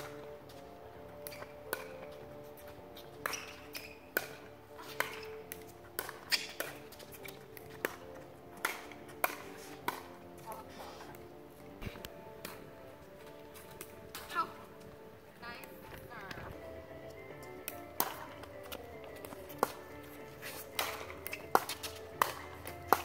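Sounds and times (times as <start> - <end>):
paddles hitting plastic ball: 0.0 - 11.3, 11.9 - 14.4, 17.3 - 23.0
background music: 0.0 - 23.0.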